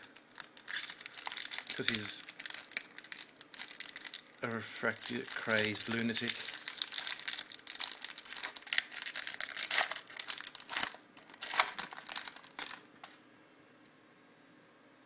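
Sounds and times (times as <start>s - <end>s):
wrapper tearing and crinkling: 0.0s - 13.2s.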